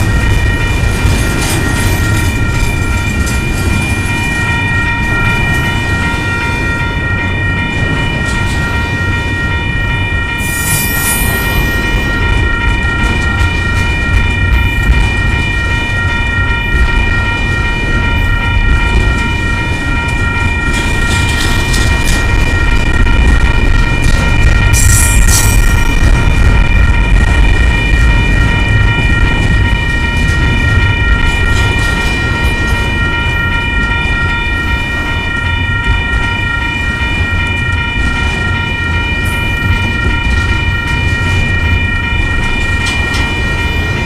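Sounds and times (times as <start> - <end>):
freight train rumbling past: 0.0 - 44.0
high ringing tone: 0.0 - 44.0.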